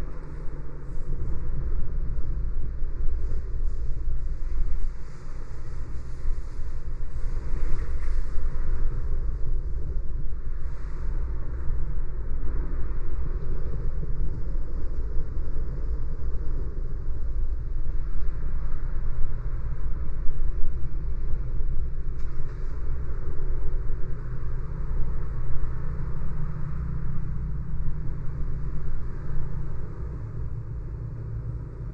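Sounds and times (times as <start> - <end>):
car road and engine rumble: 0.0 - 31.9.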